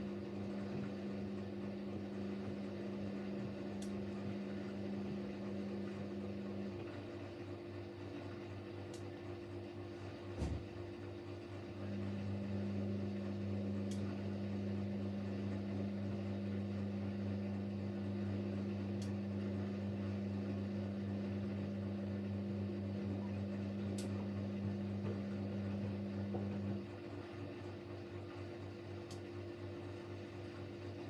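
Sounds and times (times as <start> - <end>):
drain pump humming: 0.0 - 31.0.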